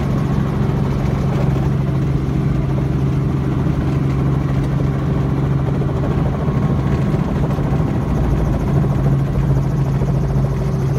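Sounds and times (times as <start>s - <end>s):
helicopter engine and rotor drone: 0.0s - 10.9s.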